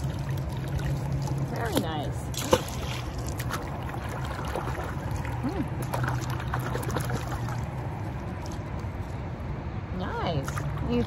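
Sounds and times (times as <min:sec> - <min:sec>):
steady low hum: 0:00.0 - 0:11.0
water dripping and lapping: 0:00.0 - 0:11.0.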